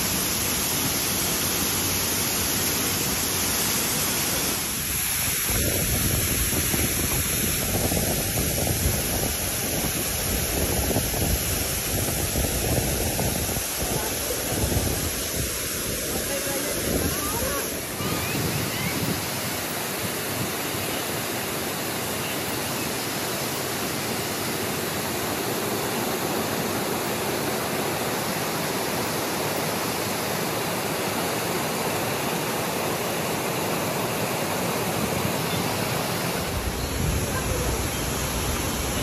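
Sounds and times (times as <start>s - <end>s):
waterfall rushing into pool: 0.0s - 39.0s.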